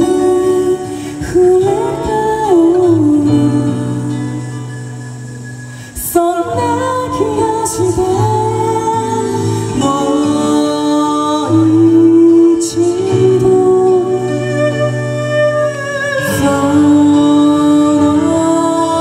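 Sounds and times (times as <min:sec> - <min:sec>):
person singing slow song: 0:00.0 - 0:19.0.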